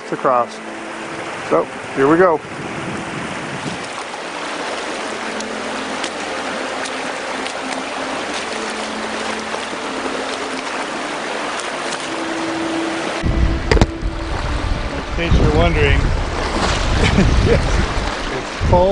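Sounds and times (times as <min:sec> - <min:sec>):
river rushing: 0:00.0 - 0:18.9.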